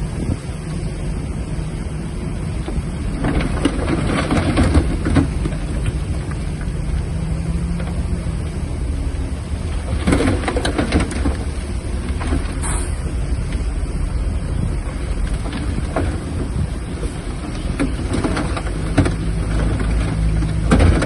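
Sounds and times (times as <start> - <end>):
crackling rattling noise: 0.0 - 21.0
diesel engine humming: 0.0 - 21.0.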